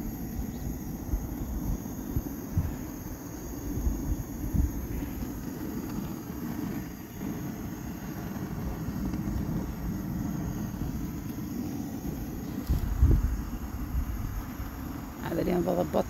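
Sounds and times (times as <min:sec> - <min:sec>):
faint high whine: 0:00.0 - 0:16.0
wind buffeting microphone: 0:00.0 - 0:16.0.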